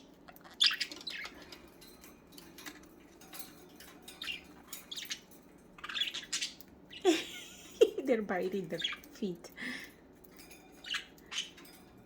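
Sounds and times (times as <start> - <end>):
budgerigars chirping softly: 0.0 - 2.0, 2.6 - 12.0.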